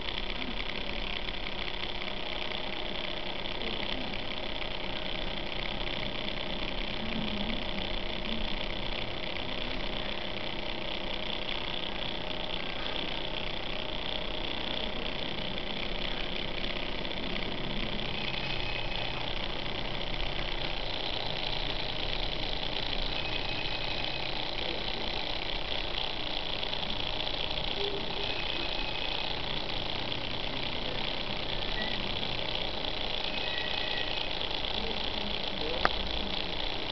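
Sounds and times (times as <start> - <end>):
small electric motors humming: 0.0 - 36.9.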